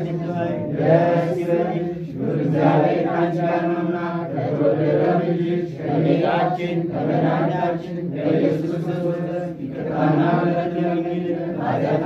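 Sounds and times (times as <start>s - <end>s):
voices chanting a hymn: 0.0s - 12.0s.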